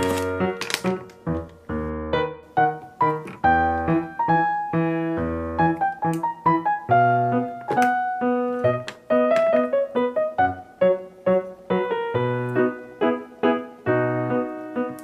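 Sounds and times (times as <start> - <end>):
bright piano melody: 0.0 - 15.0.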